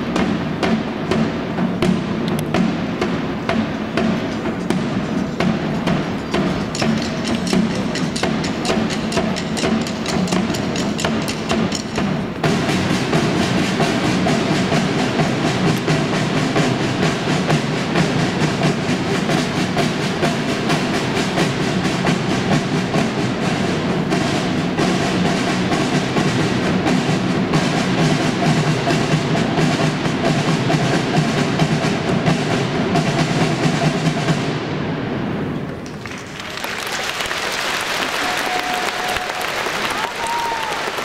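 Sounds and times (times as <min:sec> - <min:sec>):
marching side drums: 0:00.0 - 0:41.0.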